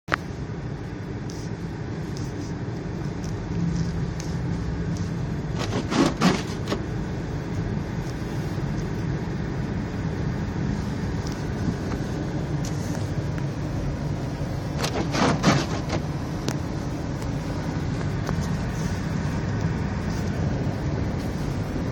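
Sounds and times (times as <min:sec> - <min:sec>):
car engine and road noise: 0:00.1 - 0:21.9.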